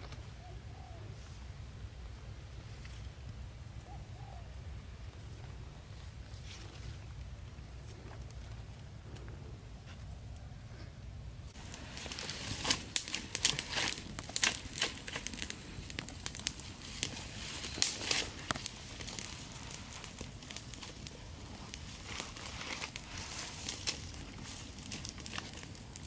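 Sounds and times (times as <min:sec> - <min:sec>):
fire crackling in dry grass: 0:01.1 - 0:26.0.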